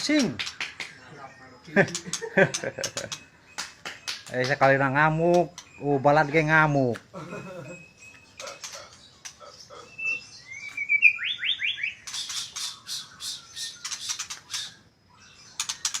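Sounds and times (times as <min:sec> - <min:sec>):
bird whistling song: 0:00.0 - 0:06.7, 0:07.4 - 0:16.0
bird harsh rasping calls: 0:00.0 - 0:16.0.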